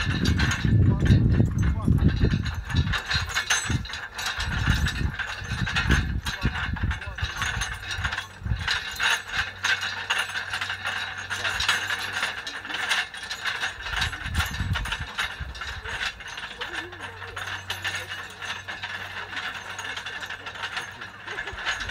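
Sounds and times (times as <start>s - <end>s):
metal ring roller rattling: 0.0s - 21.9s.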